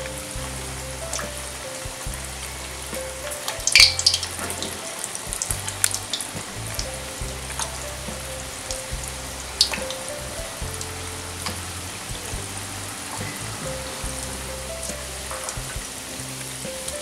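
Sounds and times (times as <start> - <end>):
dough frying in oil: 0.0 - 17.0
oil crackling: 0.0 - 17.0.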